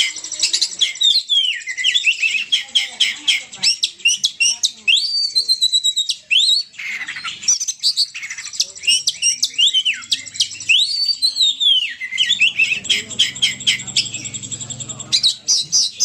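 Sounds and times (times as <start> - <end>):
bird whistling and chirping: 0.0 - 16.0.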